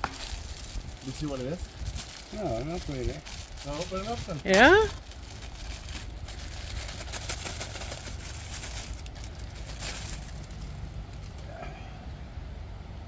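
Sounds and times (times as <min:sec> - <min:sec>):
plastic packaging crinkling: 0:00.0 - 0:11.4
low steady rumble: 0:00.0 - 0:13.0.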